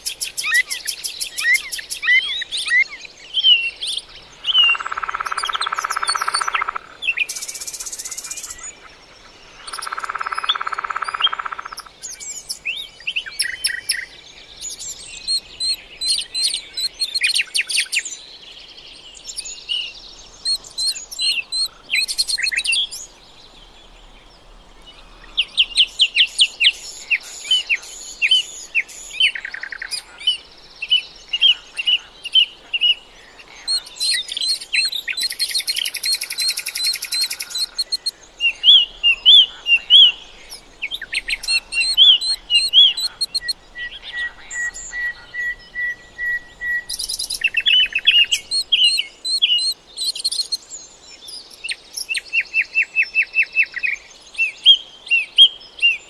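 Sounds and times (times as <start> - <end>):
songbirds singing and calling: 0.0 - 56.0.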